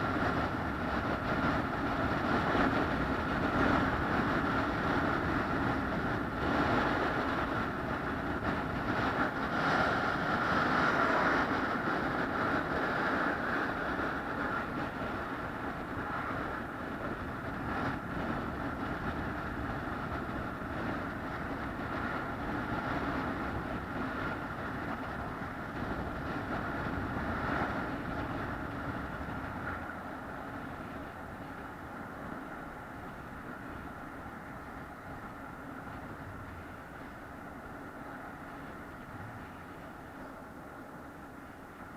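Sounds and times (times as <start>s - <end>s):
moving vehicle rumble: 0.0s - 41.9s.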